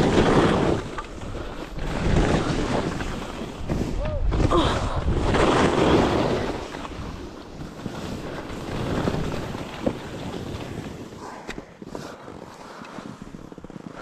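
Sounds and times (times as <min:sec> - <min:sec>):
wind rushing over microphone: 0:00.0 - 0:11.8
skis scraping through snow: 0:00.0 - 0:14.0.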